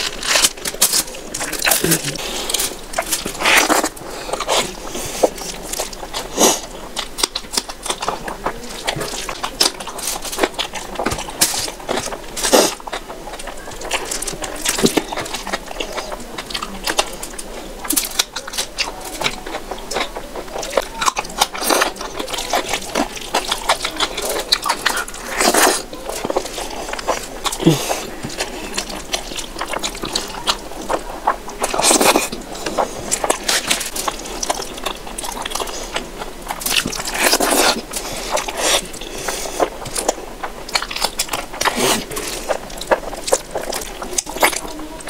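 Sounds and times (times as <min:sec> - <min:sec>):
wet chewing and lip smacks: 0:00.0 - 0:45.0.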